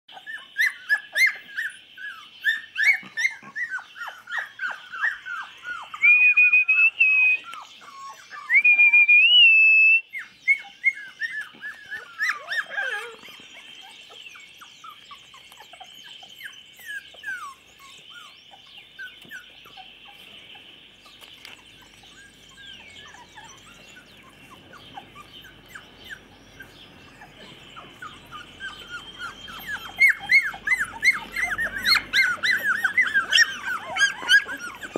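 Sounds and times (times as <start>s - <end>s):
puppies squeaking and whimpering: 0.1s - 34.9s.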